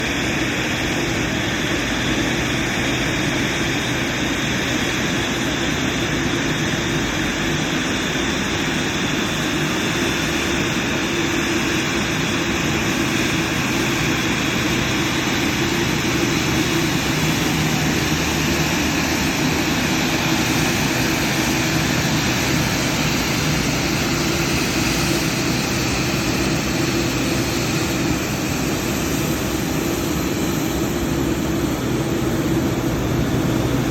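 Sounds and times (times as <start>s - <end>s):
jet engine running: 0.0s - 33.9s.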